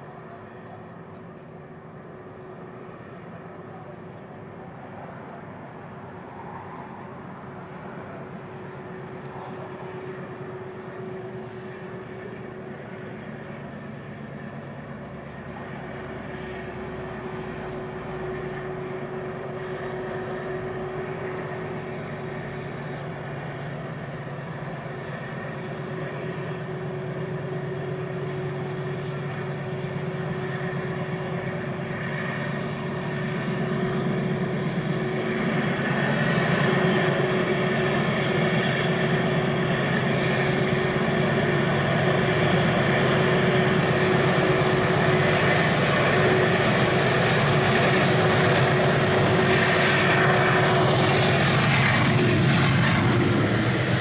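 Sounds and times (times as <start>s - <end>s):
diesel locomotive engine drone: 0.0s - 54.0s.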